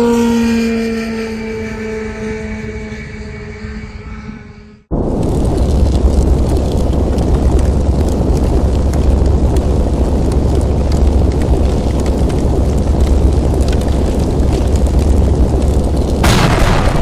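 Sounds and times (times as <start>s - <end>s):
fire rumbling roar with crackles: 0.0s - 17.0s.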